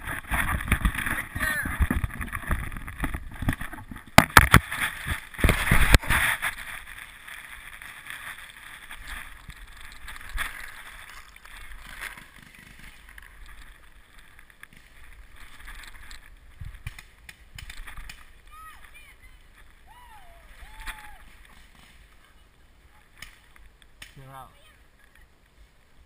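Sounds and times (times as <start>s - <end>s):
faint background noise: 0.0s - 26.0s.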